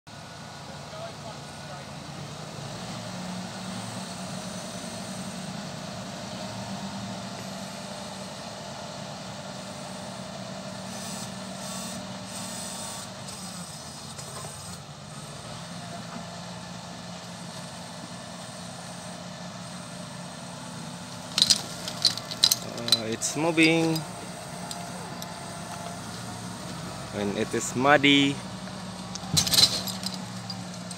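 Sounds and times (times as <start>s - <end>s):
tractor diesel engines running: 0.1s - 30.9s.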